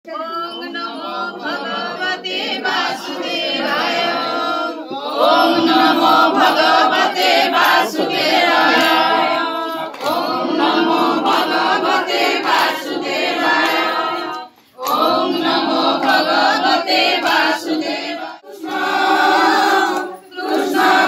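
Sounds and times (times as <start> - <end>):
group singing a chant: 0.1 - 21.0.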